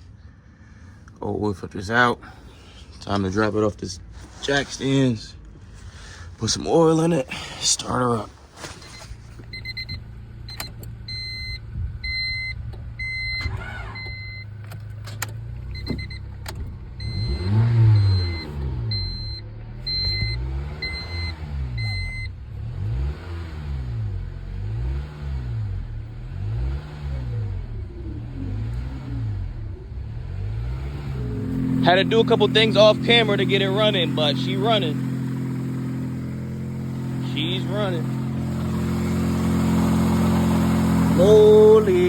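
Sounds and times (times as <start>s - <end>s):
car engine revving: 1.7s - 42.0s.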